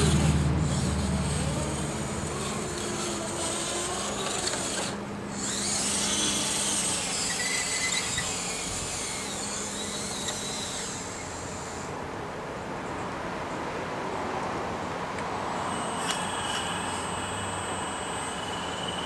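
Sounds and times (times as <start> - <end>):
small electric motor whine: 0.0 - 12.0, 15.2 - 19.0.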